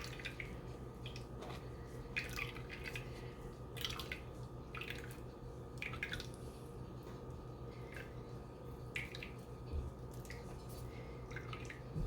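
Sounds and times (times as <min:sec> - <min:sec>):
liquid dripping through strainer: 0:00.0 - 0:06.5, 0:07.8 - 0:12.0
steady low hum: 0:00.0 - 0:12.0.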